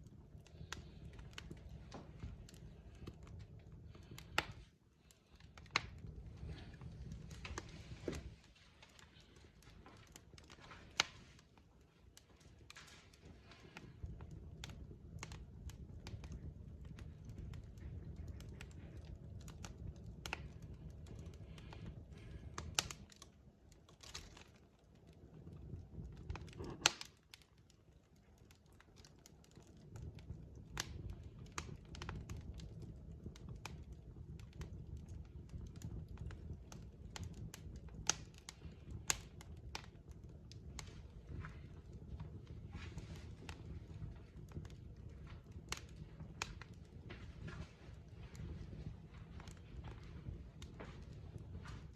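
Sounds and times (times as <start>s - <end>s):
burning logs crackling and popping: 0.0s - 51.9s
low rumble of flames: 0.0s - 51.9s.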